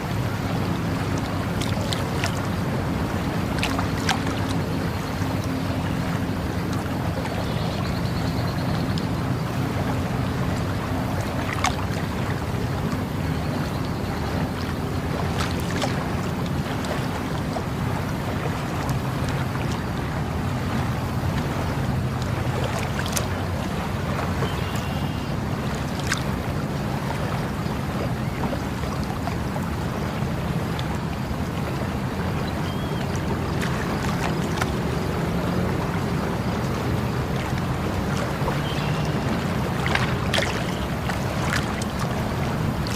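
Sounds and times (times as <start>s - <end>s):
water flowing: 0.0s - 42.9s.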